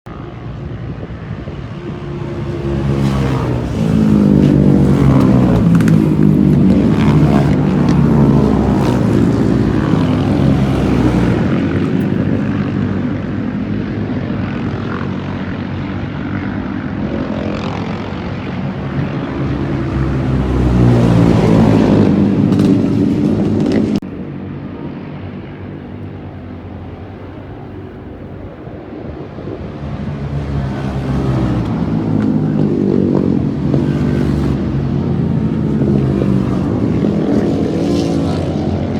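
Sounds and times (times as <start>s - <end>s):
motorcycle engine revving: 0.1s - 24.0s, 29.4s - 38.9s.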